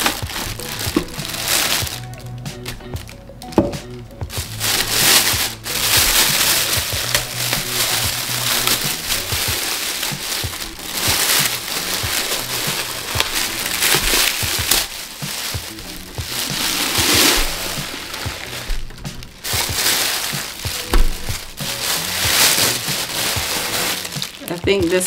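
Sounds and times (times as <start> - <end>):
plastic bag crinkling: 0.0 - 3.2, 4.3 - 25.0
music: 0.0 - 25.0.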